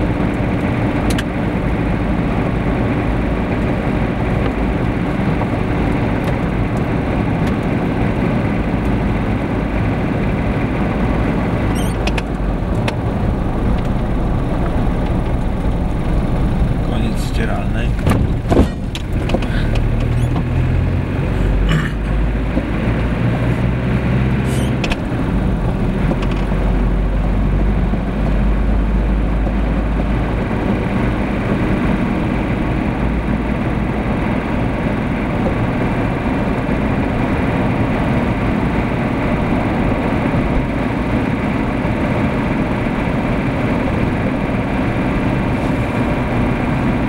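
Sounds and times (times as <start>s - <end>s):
car engine hum: 0.0s - 47.0s
tyre and road noise: 0.0s - 47.0s.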